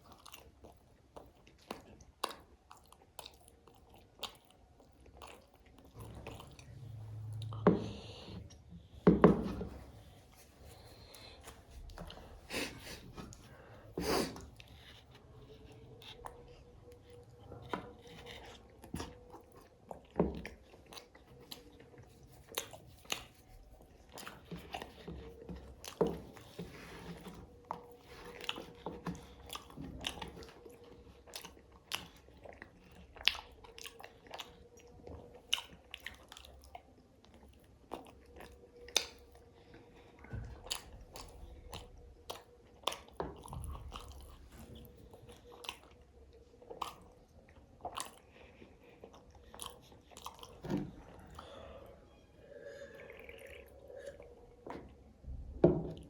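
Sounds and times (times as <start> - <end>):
faint steady hum: 3.9 - 56.0.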